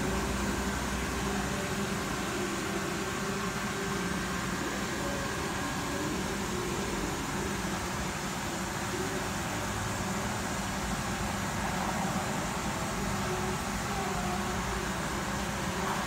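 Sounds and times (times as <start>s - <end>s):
steady mechanical hum with hiss: 0.0s - 16.0s.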